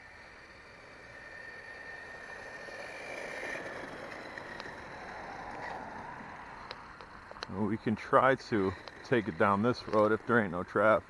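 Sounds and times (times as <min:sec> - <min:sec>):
toy truck electric motor whining: 0:00.0 - 0:11.0
tyre noise on pavement: 0:00.0 - 0:11.0.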